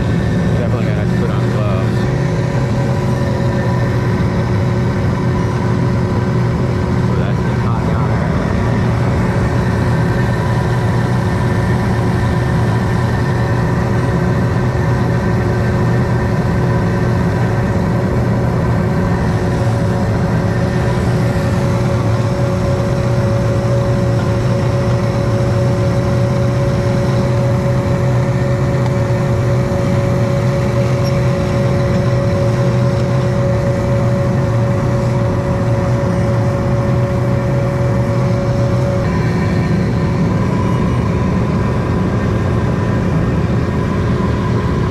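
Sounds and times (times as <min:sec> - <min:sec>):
humming tones: 0:00.0 - 0:44.9
propane burner roaring: 0:00.0 - 0:44.9.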